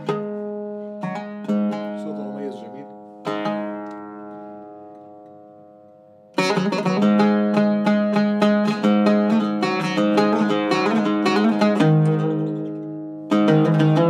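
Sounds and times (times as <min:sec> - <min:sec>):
quick plucked oud notes: 0:00.0 - 0:14.0.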